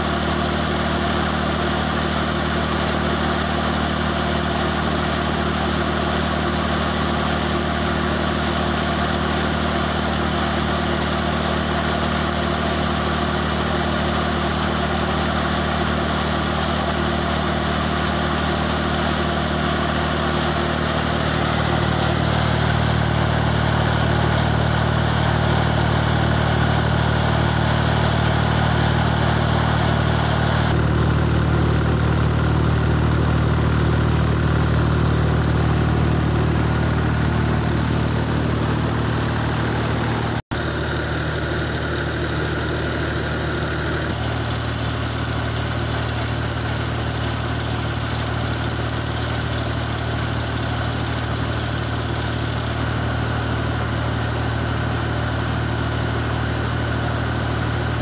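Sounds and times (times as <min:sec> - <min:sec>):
generator engine running: 0:00.0 - 0:58.0.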